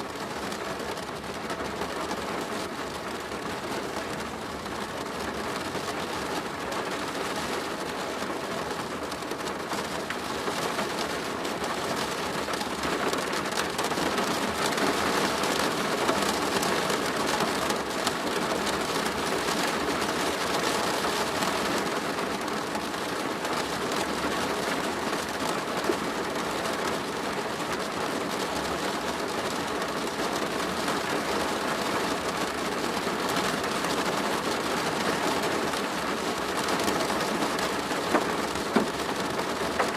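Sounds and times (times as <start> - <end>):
rain drumming on a plastic roof: 0.0 - 39.9.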